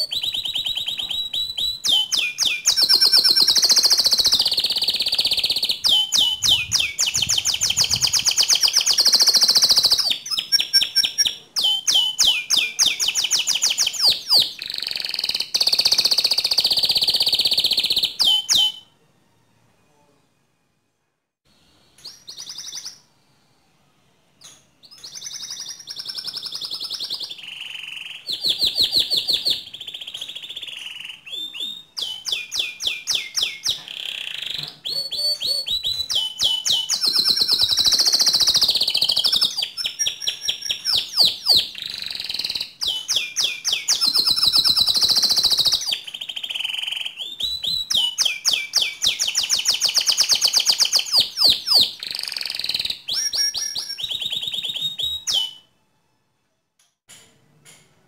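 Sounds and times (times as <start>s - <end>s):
canary singing trills: 0.0s - 18.9s, 22.0s - 23.1s, 24.4s - 55.7s.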